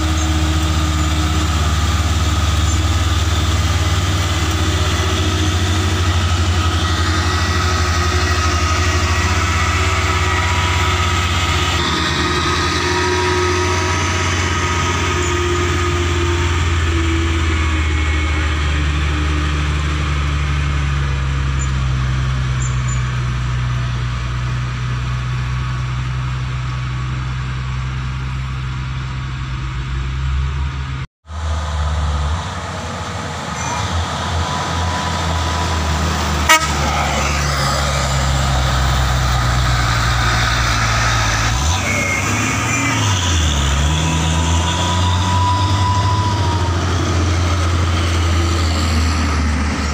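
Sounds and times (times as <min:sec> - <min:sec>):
diesel trucks grinding uphill: 0:00.0 - 0:49.9.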